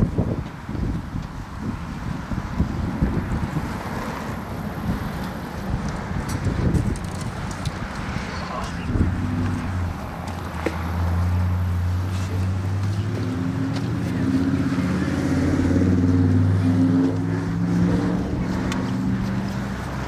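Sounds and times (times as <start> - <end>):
engine running with low hum: 0.0 - 20.0.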